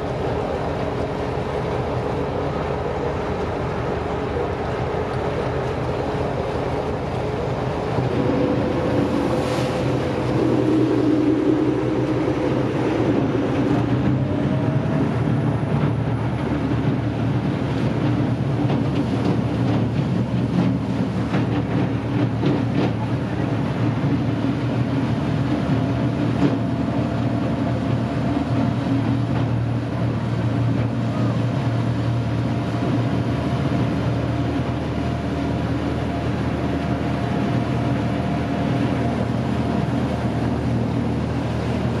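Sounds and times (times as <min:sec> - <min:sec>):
boat diesel engine running: 0:00.0 - 0:42.0
water rushing in boat wake: 0:00.0 - 0:42.0.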